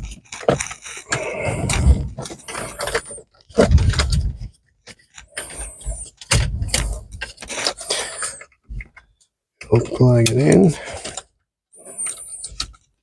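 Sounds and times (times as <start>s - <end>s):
plastic squeaking on plastic: 0.0s - 13.0s.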